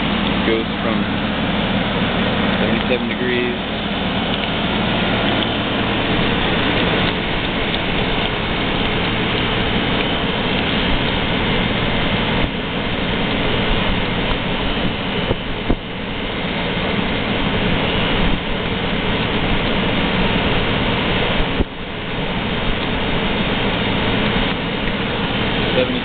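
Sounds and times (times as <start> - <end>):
air conditioner running: 0.0 - 26.0.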